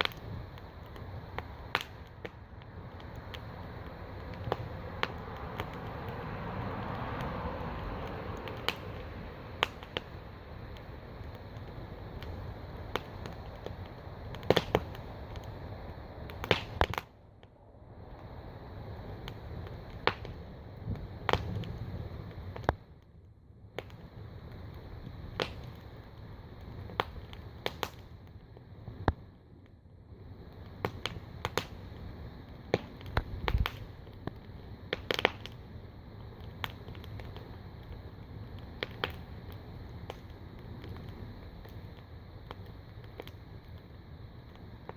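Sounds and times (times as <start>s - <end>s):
steady background noise: 0.0s - 44.9s
wood fire crackling and popping: 0.0s - 44.9s.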